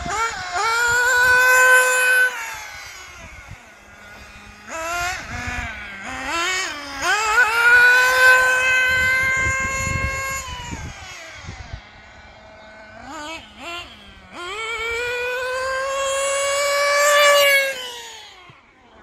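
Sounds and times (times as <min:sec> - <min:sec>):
small model engine revving: 0:00.0 - 0:19.0.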